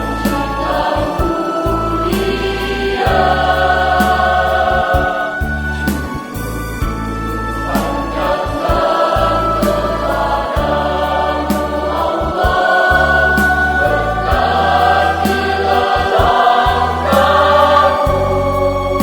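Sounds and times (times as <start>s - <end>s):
choir singing a hymn: 0.0s - 19.0s
sustained low bass notes: 0.0s - 19.0s.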